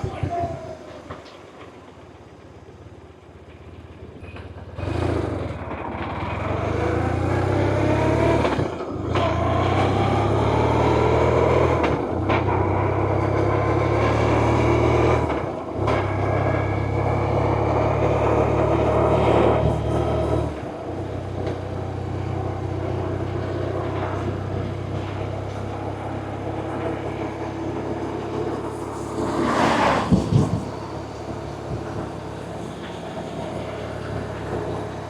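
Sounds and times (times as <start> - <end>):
motorcycle engine revving through gears: 3.4 - 35.0.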